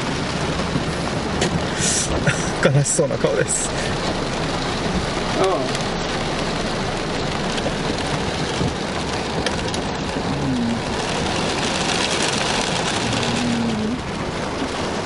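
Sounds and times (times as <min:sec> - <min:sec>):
heavy rain on car roof: 0:00.0 - 0:15.0.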